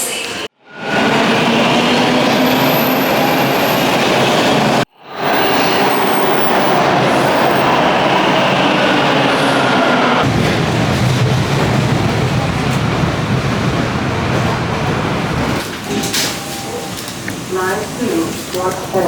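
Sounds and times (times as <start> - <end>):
subway train rumble and rattle: 0.0 - 19.0.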